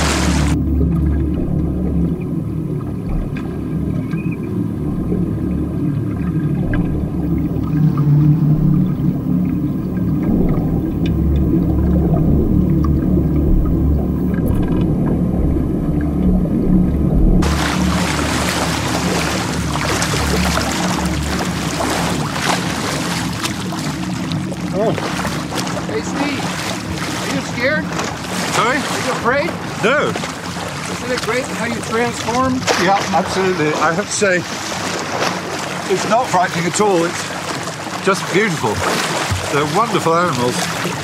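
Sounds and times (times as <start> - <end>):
low underwater rumble: 0.0 - 41.0
water splashing against metal cage: 0.0 - 41.0.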